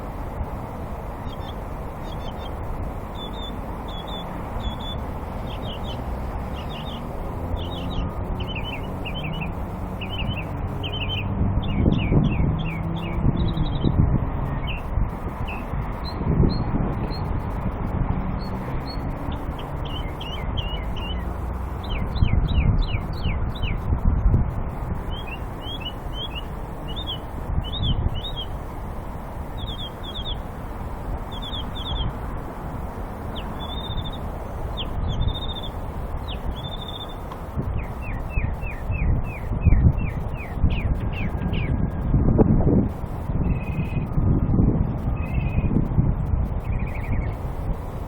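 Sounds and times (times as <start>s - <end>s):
steady low rumble: 0.0s - 48.0s
songbird singing: 1.0s - 42.1s, 42.8s - 44.2s, 44.8s - 48.0s.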